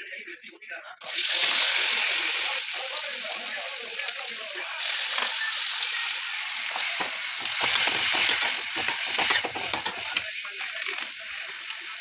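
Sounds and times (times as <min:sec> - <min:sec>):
food sizzling in a hot pan: 0:01.0 - 0:12.0.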